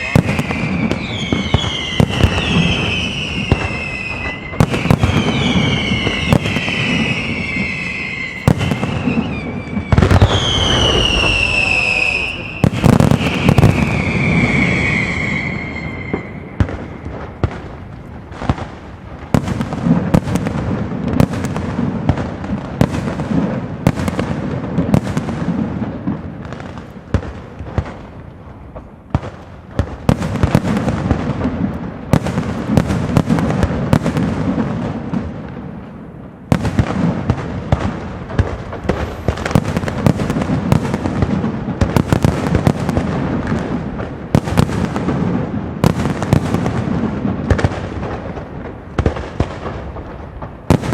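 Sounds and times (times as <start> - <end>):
fireworks bursts and crackling bangs: 0.0 - 50.9
whistling firework: 0.0 - 50.9.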